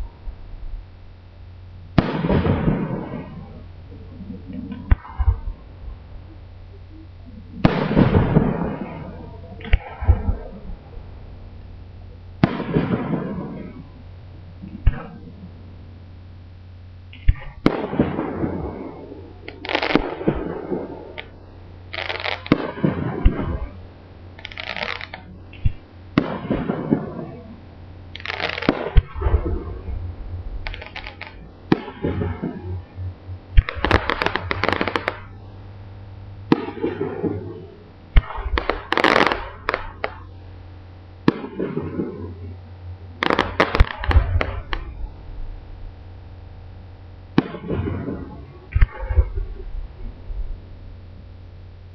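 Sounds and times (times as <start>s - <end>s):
fireworks bursting with crackle: 0.0s - 50.9s
steady low hum: 0.0s - 51.9s.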